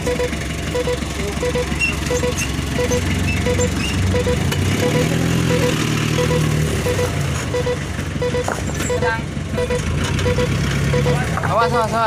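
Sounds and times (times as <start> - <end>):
reversing beeper double beeps: 0.0 - 11.3
heavy truck engine running: 0.0 - 12.0.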